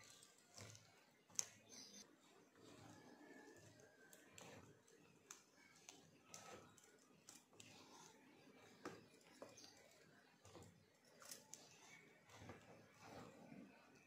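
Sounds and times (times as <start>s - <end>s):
wet squelching of batter: 0.0s - 14.0s.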